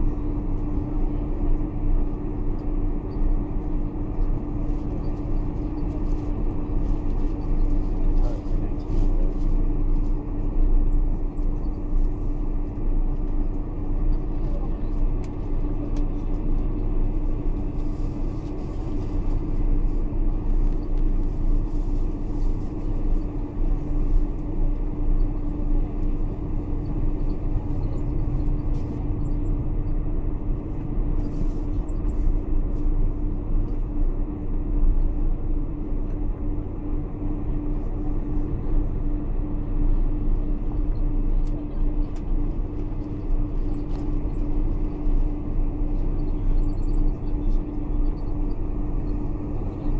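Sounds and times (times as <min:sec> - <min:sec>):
airliner engines droning: 0:00.0 - 0:49.9.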